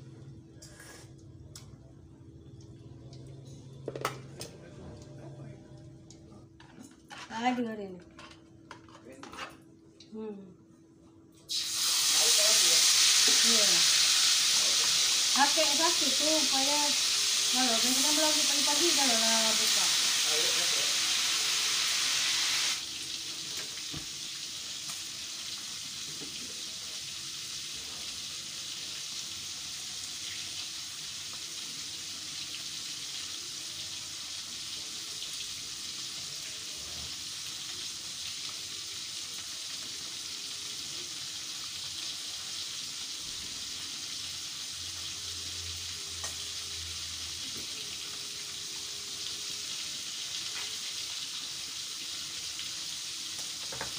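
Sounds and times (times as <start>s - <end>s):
food sizzling in a wok: 0.0s - 1.4s, 11.4s - 53.9s.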